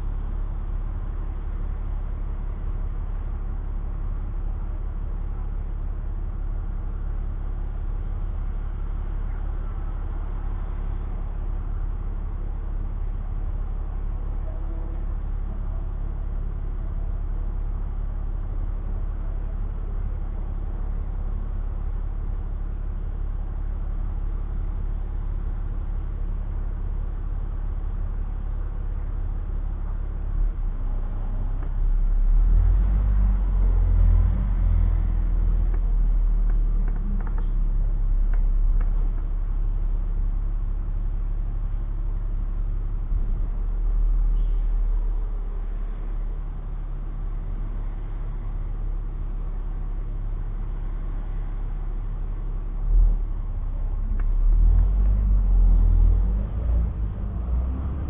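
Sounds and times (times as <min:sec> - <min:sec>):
bus engine rumble: 0:00.0 - 0:58.0
road noise: 0:00.0 - 0:58.0.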